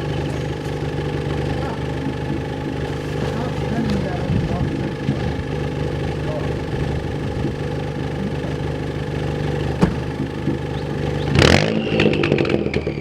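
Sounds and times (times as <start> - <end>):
car engine idling: 0.0 - 13.0
engine revving: 0.0 - 13.0
exhaust pops and crackles: 0.0 - 13.0
high turbo whine: 0.0 - 13.0.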